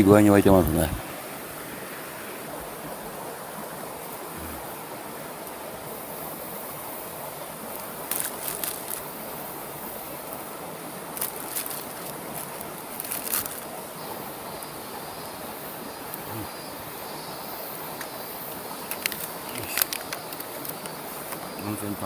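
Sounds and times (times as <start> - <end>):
water boiling in pot: 0.0 - 22.0.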